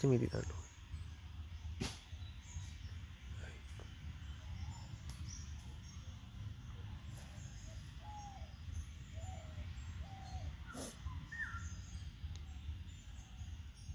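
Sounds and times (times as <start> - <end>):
birds calling: 0.0 - 13.9
steady low rumble: 0.0 - 13.9.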